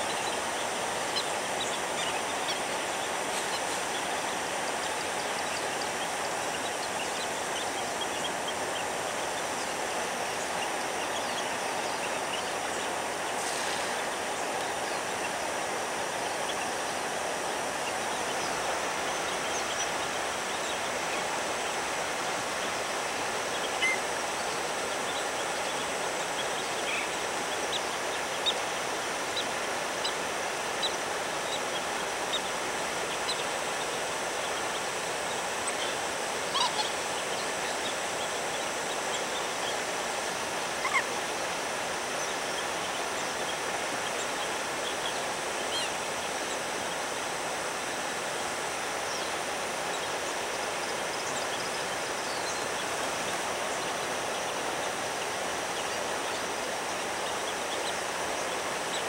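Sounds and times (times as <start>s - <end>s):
wetland background hiss: 0.0s - 59.0s.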